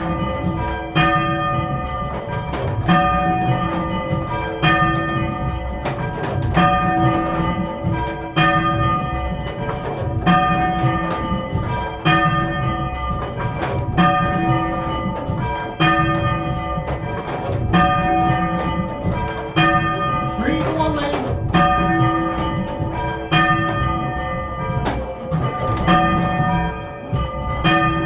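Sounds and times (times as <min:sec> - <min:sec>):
church bells ringing: 0:00.0 - 0:28.0.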